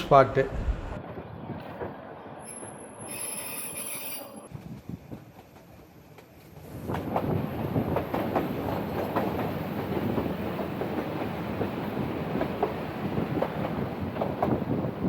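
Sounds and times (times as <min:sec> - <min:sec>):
train rumble: 0:00.0 - 0:02.8, 0:04.4 - 0:15.0.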